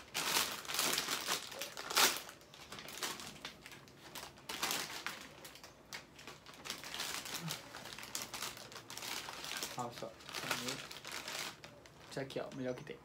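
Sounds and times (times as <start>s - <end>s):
chip bag crinkling: 0.0s - 12.6s.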